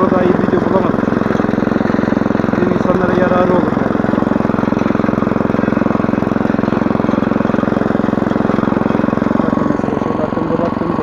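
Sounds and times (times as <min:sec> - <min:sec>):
motor hoe engine running: 0:00.0 - 0:11.0
tines working soil: 0:00.0 - 0:11.0.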